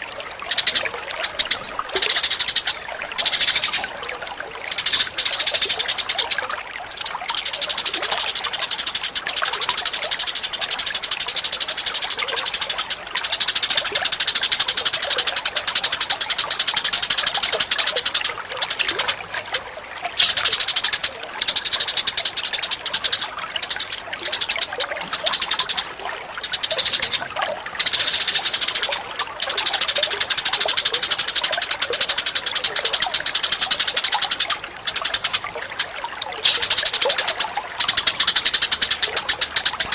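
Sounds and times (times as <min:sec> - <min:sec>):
songbird high-pitched trilling: 0:00.0 - 0:03.9, 0:04.6 - 0:19.2, 0:20.2 - 0:39.9.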